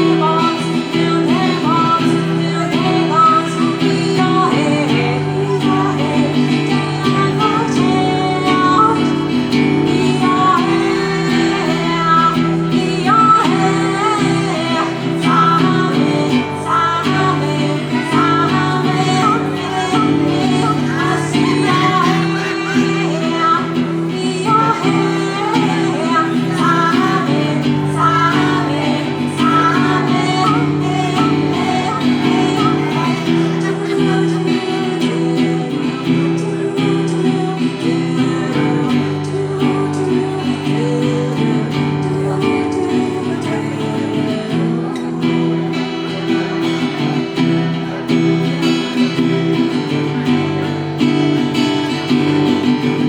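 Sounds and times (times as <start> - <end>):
person singing: 0.0 - 53.0
strummed acoustic guitar: 0.0 - 53.0.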